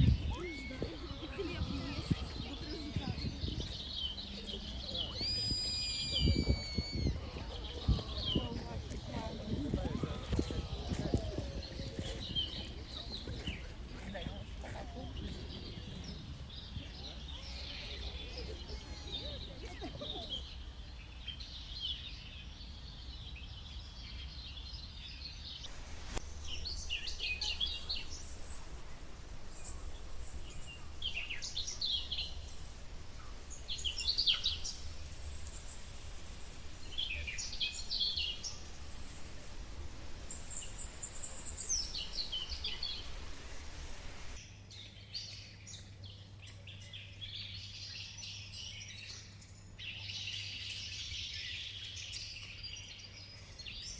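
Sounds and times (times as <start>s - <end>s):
birds chirping and trilling: 0.0s - 14.4s, 15.0s - 53.9s.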